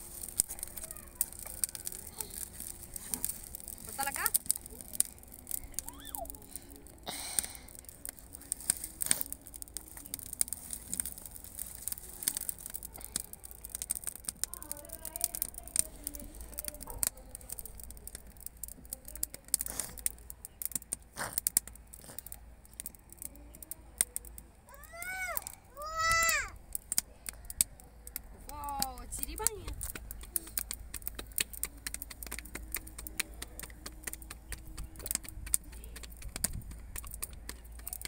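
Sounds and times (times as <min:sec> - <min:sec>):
twigs crackling in fire: 0:00.0 - 0:38.0.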